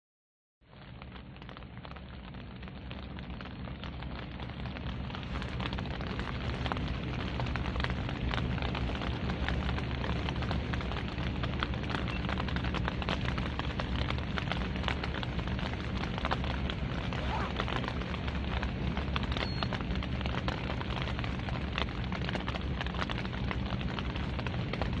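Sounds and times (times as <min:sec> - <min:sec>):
wind buffeting microphone: 0:01.3 - 0:25.0.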